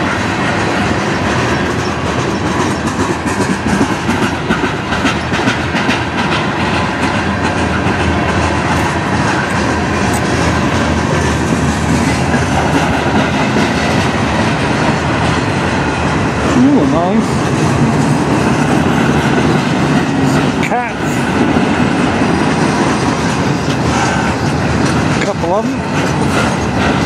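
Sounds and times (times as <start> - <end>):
steel wheels rumbling on rail: 0.0 - 27.0
wheels clicking over rail joints: 0.0 - 27.0.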